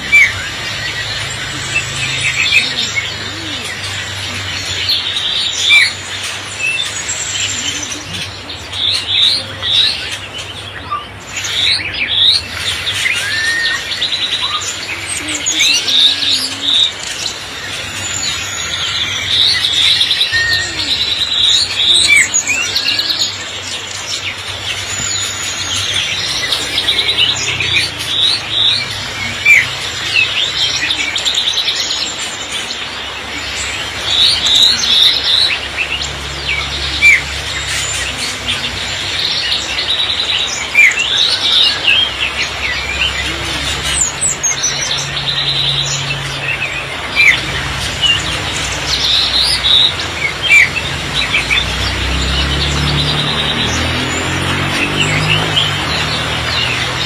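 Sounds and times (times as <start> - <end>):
songbirds chirping and calling: 0.0 - 57.0.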